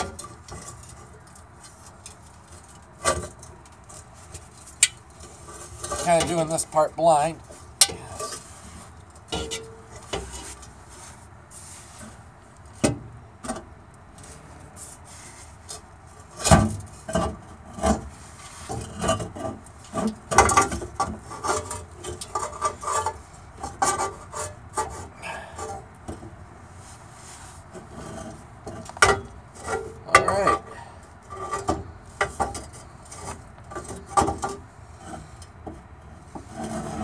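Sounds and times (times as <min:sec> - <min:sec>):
metal scraping and rattling: 0:00.0 - 0:37.0.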